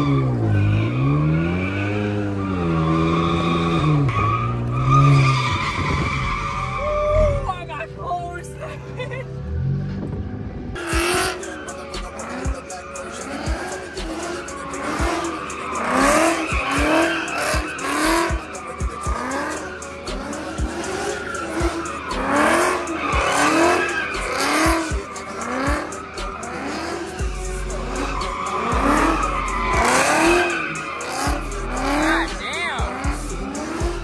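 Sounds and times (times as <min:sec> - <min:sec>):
car engine revving: 0:00.0 - 0:34.0
tyres squealing and skidding: 0:00.0 - 0:34.0.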